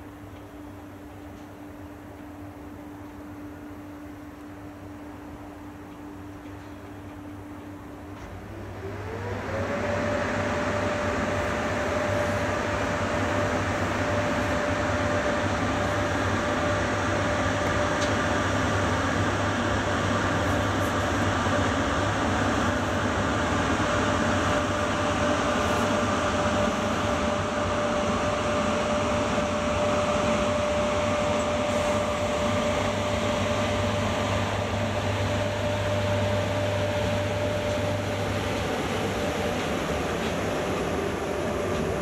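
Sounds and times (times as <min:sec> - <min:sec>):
electric locomotive hum and rumble: 0:00.0 - 0:42.0
locomotive whine: 0:00.0 - 0:42.0.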